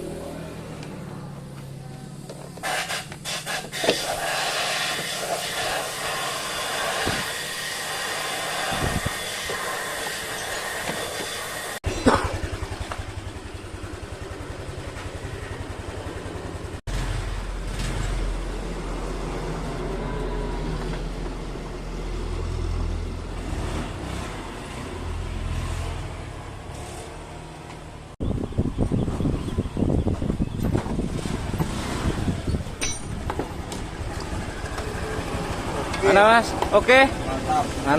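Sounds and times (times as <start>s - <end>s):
scooter engine running: 0.0s - 3.3s, 4.9s - 37.9s.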